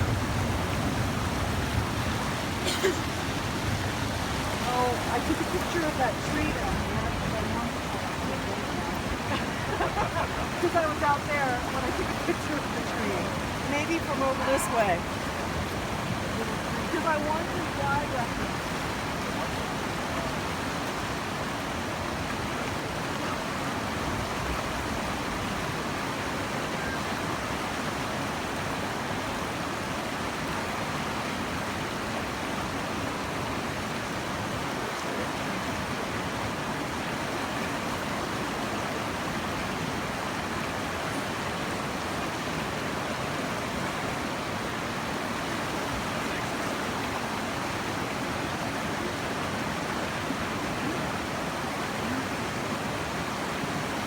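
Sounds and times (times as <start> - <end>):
flood water rushing down a creek: 0.0 - 54.0.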